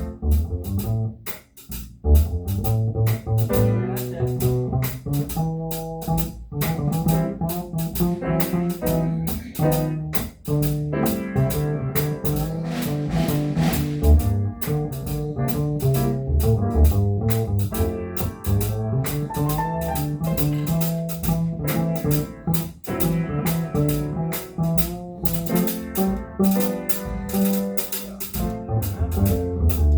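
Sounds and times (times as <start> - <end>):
bass line: 0.0 - 29.9
drum kit: 0.0 - 29.9
instrumental jazz combo: 0.0 - 29.9.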